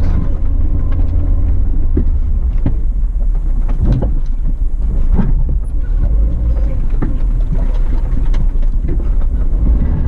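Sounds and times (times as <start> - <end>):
car body knocks and rattles: 0.0 - 10.0
car engine rumbling: 0.0 - 10.0.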